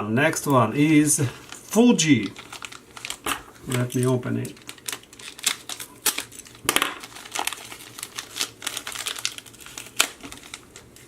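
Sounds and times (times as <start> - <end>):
packaging crinkling: 0.9 - 11.0
packaging snapping: 1.5 - 11.0.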